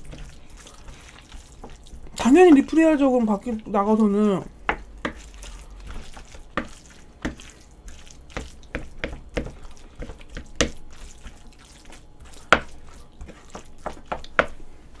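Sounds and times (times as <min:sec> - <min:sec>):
utensil stirring sticky rice: 0:00.0 - 0:03.6, 0:04.6 - 0:15.0.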